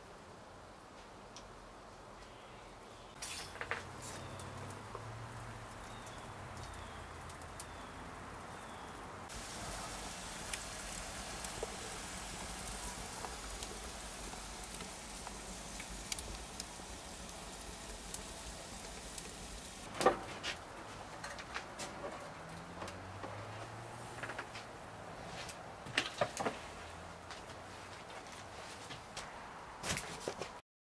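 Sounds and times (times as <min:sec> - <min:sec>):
wood fire crackling: 0:03.1 - 0:29.2.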